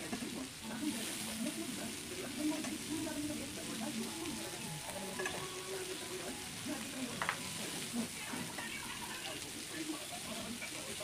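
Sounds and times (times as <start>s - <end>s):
skewers sizzling on a grill: 0.0s - 11.0s.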